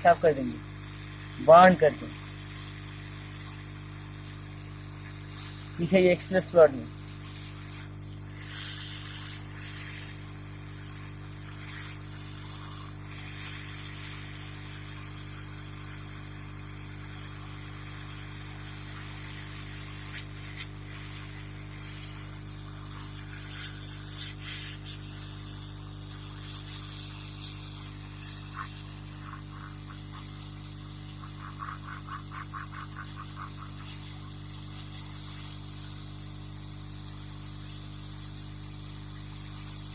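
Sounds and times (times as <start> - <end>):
brush scrubbing scratchy hiss: 0.0 - 36.1
steady electrical hum: 0.0 - 39.9.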